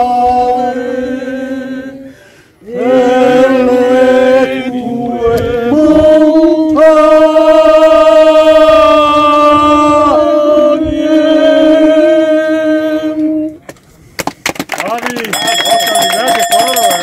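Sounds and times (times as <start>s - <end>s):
voices singing slow song: 0.0s - 13.6s.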